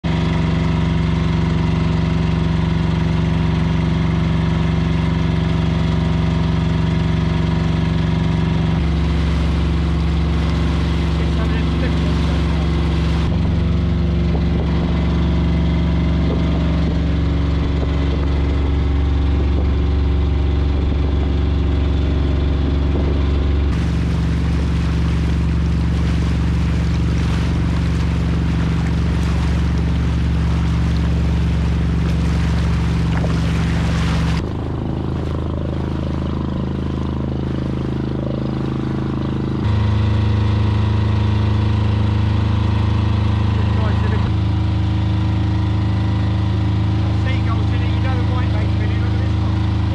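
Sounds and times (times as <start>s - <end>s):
boat engine humming: 0.0s - 49.9s
water rushing along hull: 0.0s - 49.9s.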